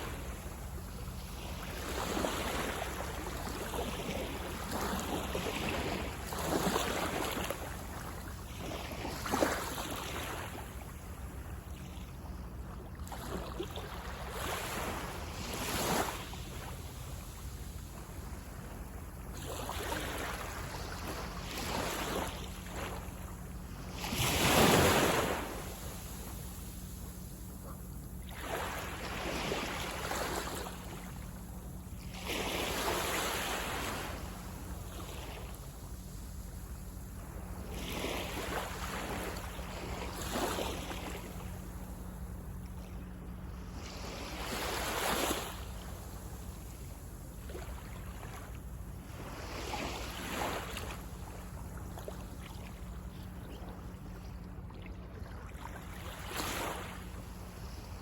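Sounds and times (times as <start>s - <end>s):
low steady rumble: 0.0s - 58.0s
small waves breaking on beach: 0.0s - 58.0s.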